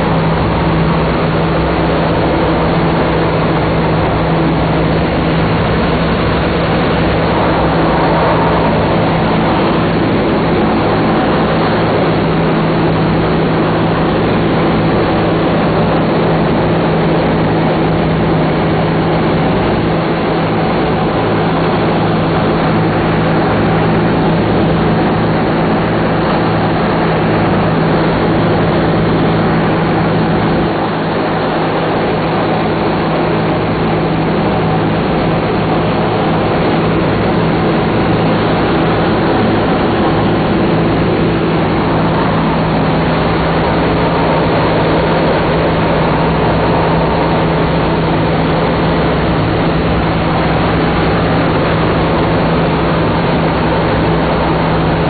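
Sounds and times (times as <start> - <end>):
aircraft engines droning: 0.0 - 55.0
rush of air: 0.0 - 55.0.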